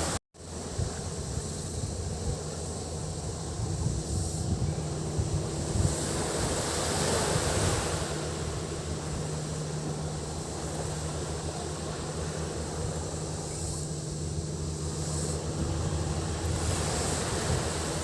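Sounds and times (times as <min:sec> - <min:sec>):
sea waves washing onto beach: 0:00.0 - 0:01.6, 0:02.2 - 0:18.0
cicadas droning: 0:00.0 - 0:18.0
wind rumble on microphone: 0:00.0 - 0:18.0.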